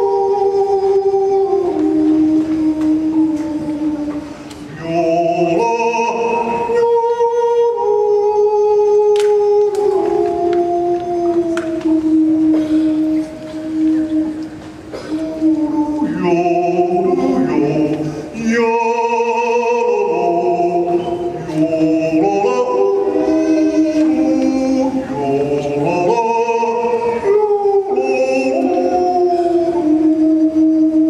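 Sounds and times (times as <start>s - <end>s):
man yodelling into microphone: 0.0s - 14.4s, 15.1s - 31.0s.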